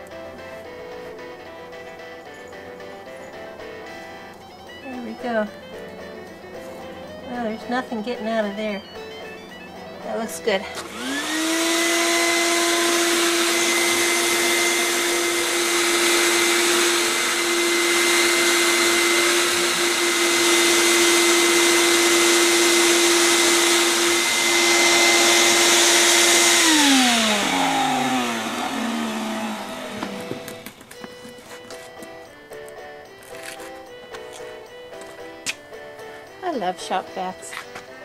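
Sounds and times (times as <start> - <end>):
shop vac running: 0.0 - 38.0.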